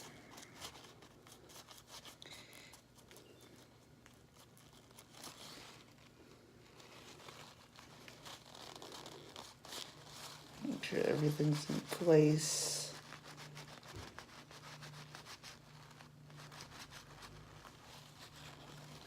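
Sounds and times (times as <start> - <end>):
paper towel rustling: 0.0 - 19.0.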